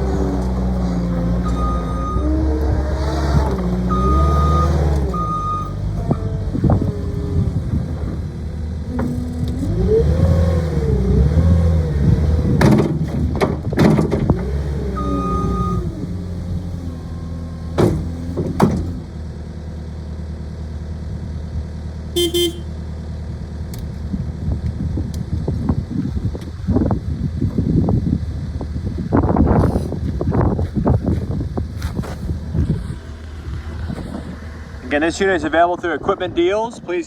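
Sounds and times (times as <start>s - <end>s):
diesel engine under load: 0.0s - 37.0s.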